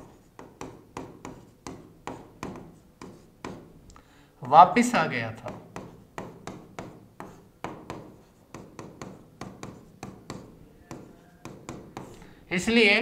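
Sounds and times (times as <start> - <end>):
pen tapping on glass board: 0.0 - 3.7, 5.4 - 12.3.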